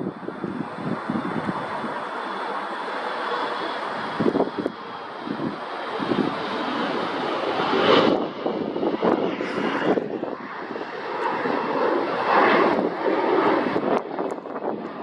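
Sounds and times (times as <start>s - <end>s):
airliner engines passing: 0.0s - 15.0s.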